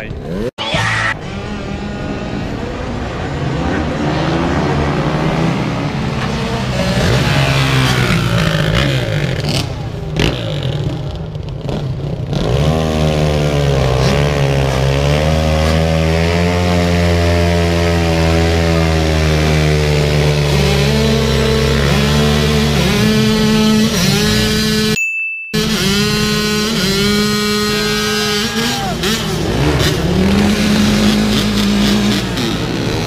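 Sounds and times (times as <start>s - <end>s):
motorcycle engines revving: 0.0s - 25.0s, 25.6s - 33.0s.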